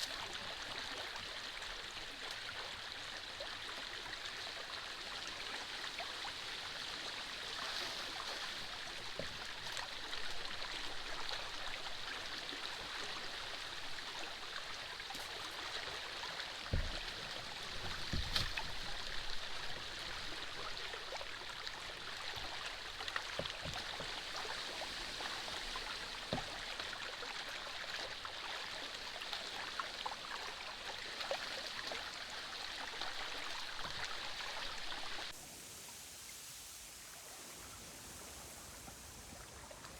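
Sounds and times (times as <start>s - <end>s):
running water in a canal: 0.0s - 39.9s.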